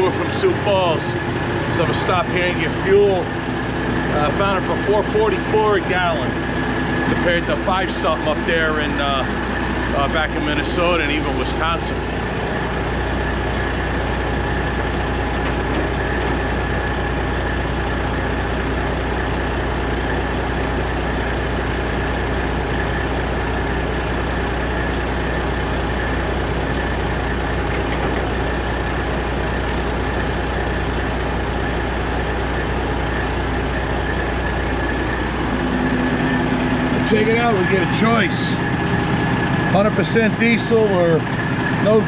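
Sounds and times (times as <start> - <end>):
truck diesel engine humming: 0.0 - 42.0.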